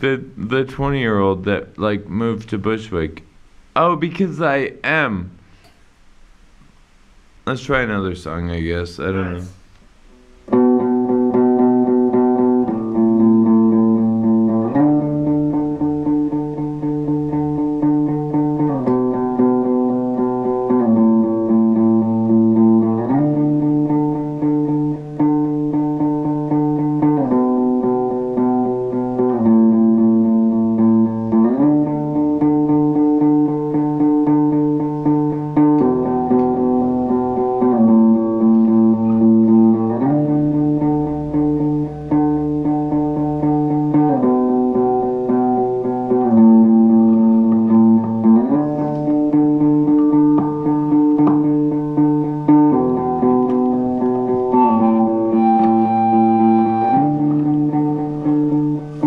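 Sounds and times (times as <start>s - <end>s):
electric guitar chords: 10.2s - 59.0s.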